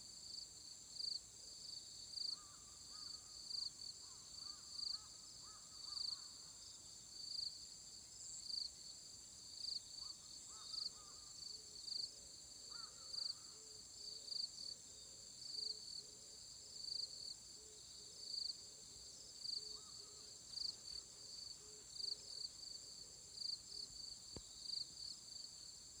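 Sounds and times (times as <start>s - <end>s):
faint short insect calls: 0.1s - 26.0s
pulsing insect song: 0.1s - 26.0s.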